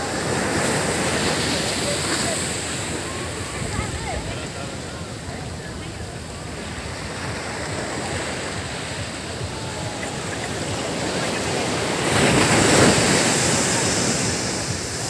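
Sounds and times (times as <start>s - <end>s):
surf washing onto beach: 0.0s - 15.0s
wave breaking: 0.0s - 15.0s.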